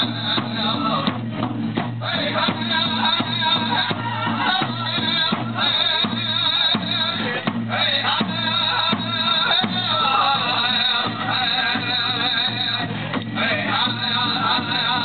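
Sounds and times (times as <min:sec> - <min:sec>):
big drum steady beat: 0:00.0 - 0:15.0
group singing: 0:00.0 - 0:15.0.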